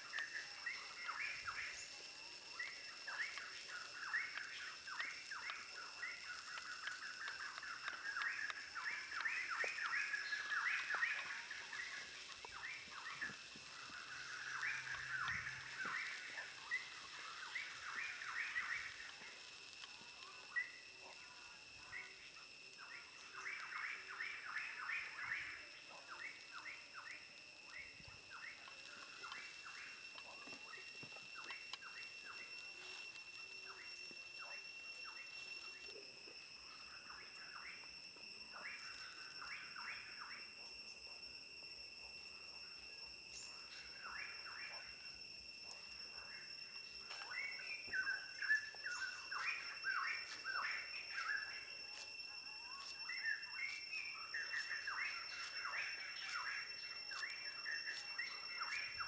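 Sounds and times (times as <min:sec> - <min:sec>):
steady high-pitched whine: 0:00.0 - 0:59.0.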